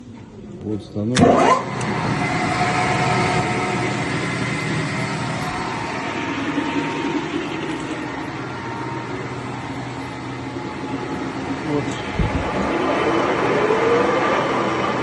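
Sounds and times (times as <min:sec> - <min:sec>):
lathe humming and whining: 0:01.2 - 0:15.0.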